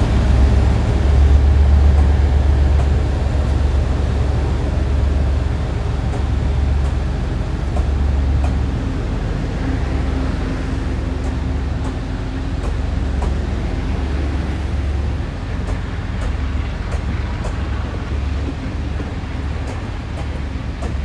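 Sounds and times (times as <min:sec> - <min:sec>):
train coaches rolling past: 0:00.0 - 0:21.0
wheels clicking over rails: 0:00.0 - 0:21.0.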